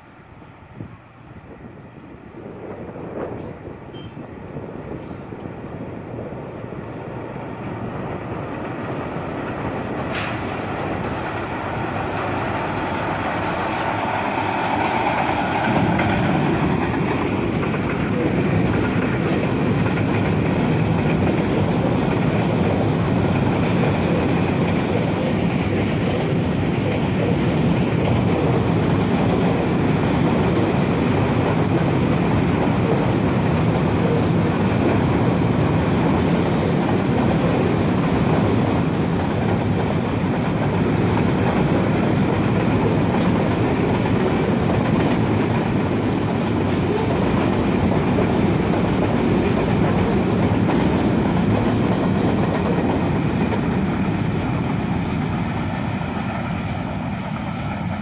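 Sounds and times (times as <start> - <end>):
diesel locomotive: 0.0 - 58.0
freight wagons rolling on rails: 7.4 - 56.6.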